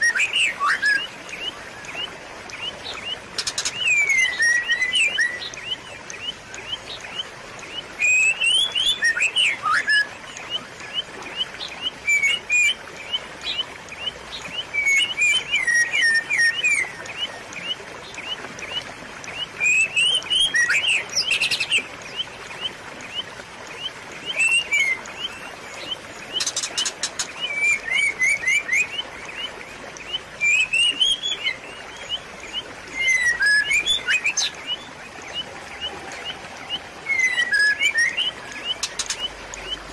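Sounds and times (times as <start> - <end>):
songbird chirping: 0.0 - 39.9
trickle of running water: 0.0 - 39.9.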